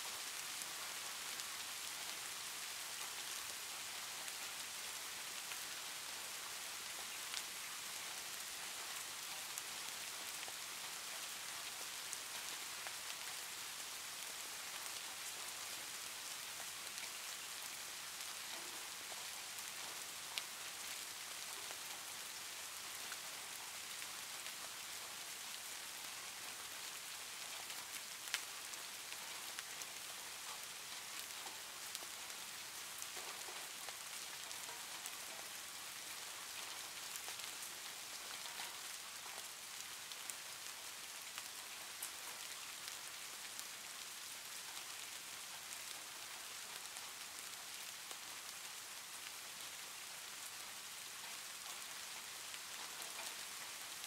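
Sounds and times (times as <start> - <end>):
gentle rain hiss: 0.0 - 54.0.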